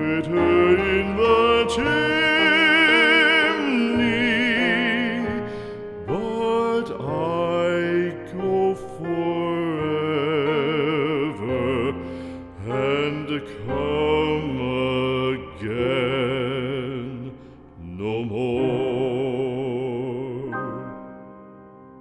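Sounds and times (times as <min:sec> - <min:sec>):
slow ballad singing with vibrato: 0:00.0 - 0:22.0.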